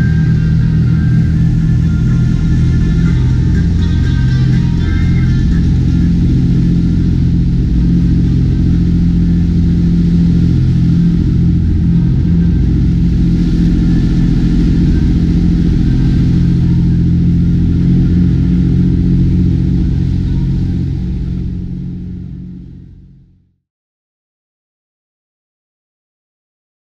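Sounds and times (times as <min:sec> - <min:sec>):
water rushing along hull: 0:00.0 - 0:23.2
speedboat engines droning: 0:00.0 - 0:23.4.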